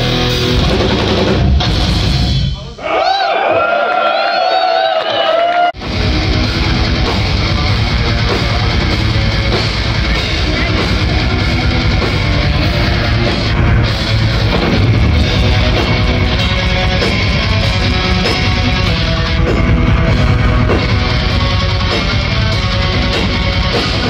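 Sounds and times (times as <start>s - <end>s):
heavy metal band playing live: 0.0s - 2.8s, 5.8s - 24.0s.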